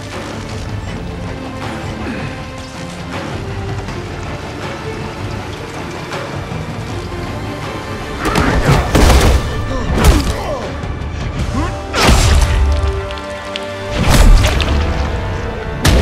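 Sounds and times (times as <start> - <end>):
dramatic action music: 0.0 - 16.0.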